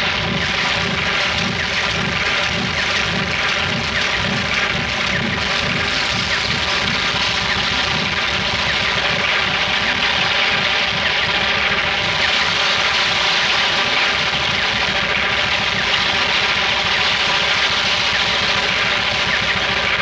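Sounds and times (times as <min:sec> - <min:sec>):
engine-like drone: 0:00.0 - 0:20.0.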